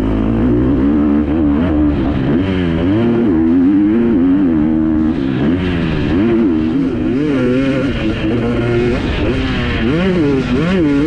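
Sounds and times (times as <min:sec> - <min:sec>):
motocross bike engine full throttle: 0:00.0 - 0:11.0.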